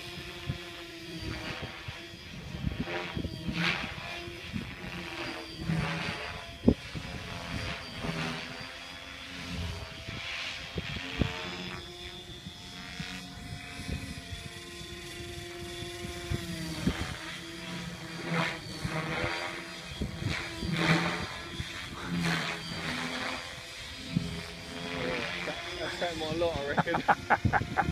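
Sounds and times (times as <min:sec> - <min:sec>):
helicopter rotor blades chopping: 0:00.0 - 0:27.9
motor and rotor whine: 0:00.0 - 0:27.9.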